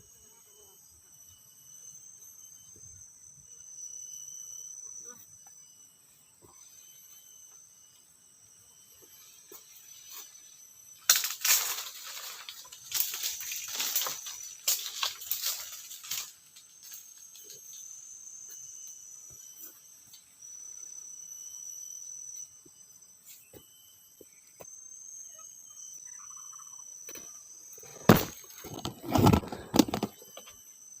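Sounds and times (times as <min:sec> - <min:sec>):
insects calling: 0:00.0 - 0:31.0.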